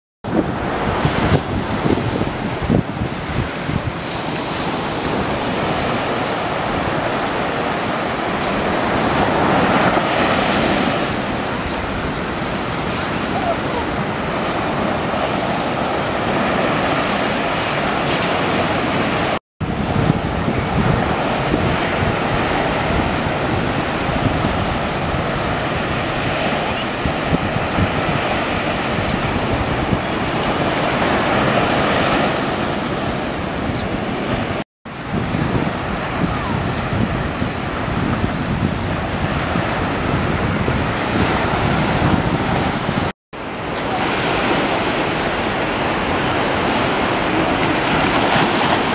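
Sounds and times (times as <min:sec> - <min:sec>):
wind buffeting microphone: 0:00.2 - 0:48.9
ocean surf breaking on beach: 0:00.3 - 0:48.9.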